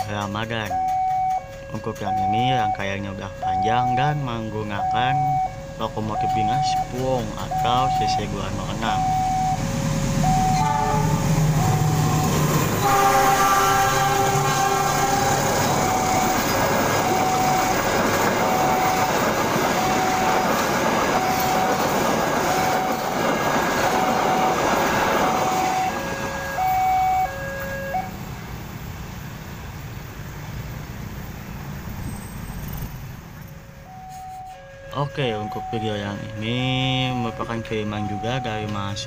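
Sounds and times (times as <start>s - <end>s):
train rushing past: 0.0s - 34.0s.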